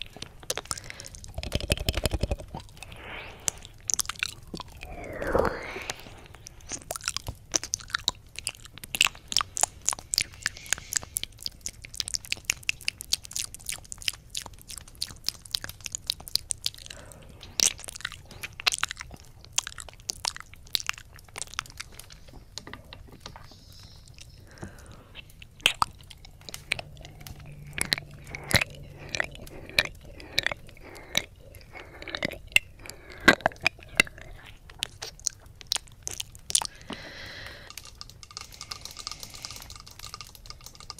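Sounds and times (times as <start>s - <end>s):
wet lip smacks and licks: 0.0s - 40.6s.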